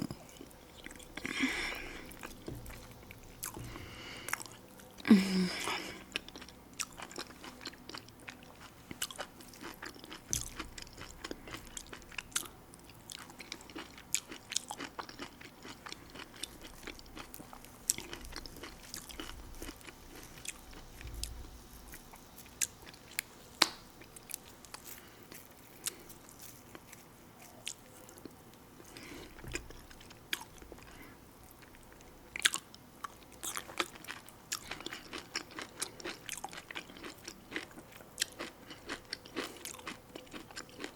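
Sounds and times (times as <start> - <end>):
person chewing with wet clicks: 0.0 - 5.1, 6.0 - 40.9.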